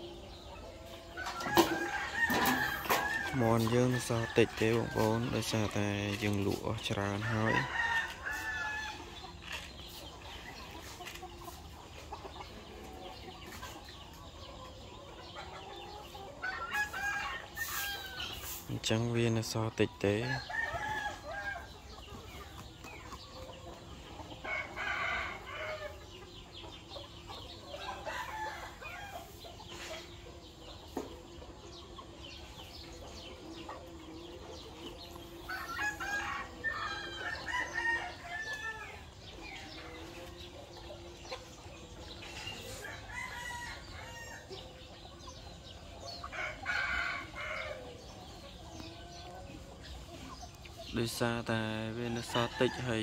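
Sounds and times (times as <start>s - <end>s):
roosters crowing: 0.0s - 11.6s, 12.2s - 53.0s
chickens clucking: 0.0s - 53.0s.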